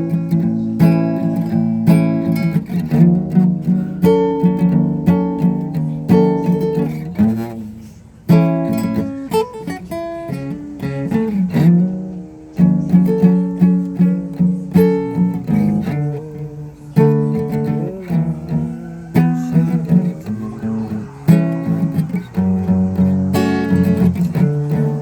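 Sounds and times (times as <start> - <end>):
acoustic guitar strummed and picked: 0.0 - 25.0.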